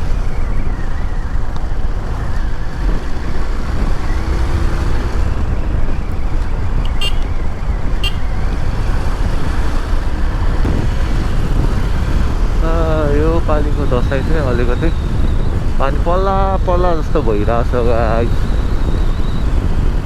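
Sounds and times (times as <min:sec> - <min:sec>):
motorcycle riding noise: 0:00.0 - 0:20.0
wind rumble on microphone: 0:00.0 - 0:20.0.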